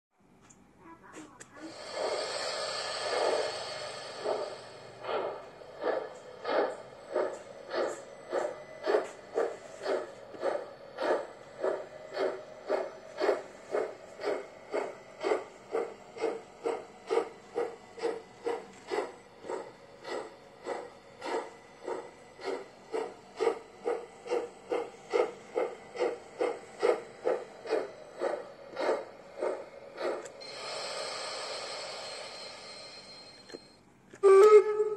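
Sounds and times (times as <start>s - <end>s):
hiss of steam: 1.6s - 18.2s, 20.0s - 33.0s
steam locomotive chuffing: 1.6s - 34.9s.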